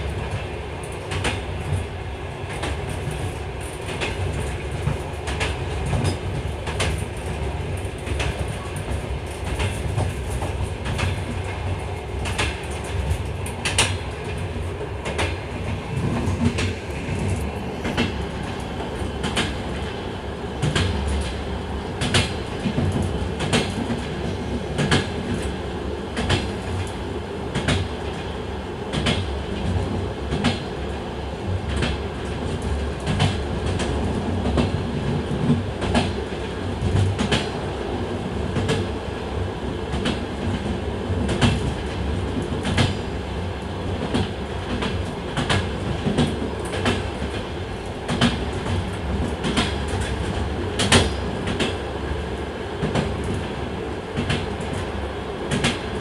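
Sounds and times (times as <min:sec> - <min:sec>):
clickety-clack of rail joints: 0:00.0 - 0:56.0
train wheels rumbling on rails: 0:00.0 - 0:56.0.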